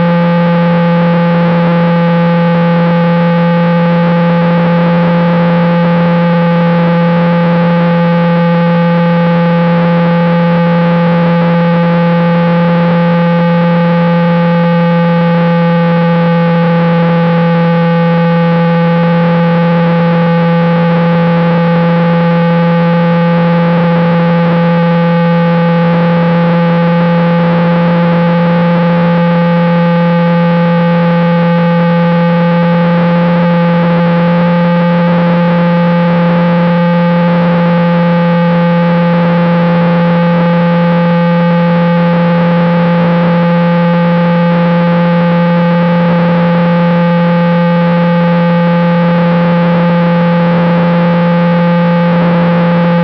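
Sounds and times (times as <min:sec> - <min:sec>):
low buzzing hum: 0:00.0 - 0:53.0.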